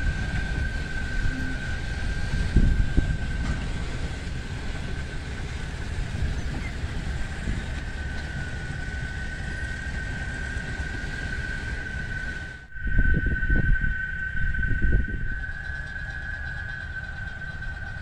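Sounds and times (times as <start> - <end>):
freight wagons rumbling on rails: 0.0 - 12.7, 13.9 - 18.0
high-pitched wheel squeal: 0.0 - 18.0.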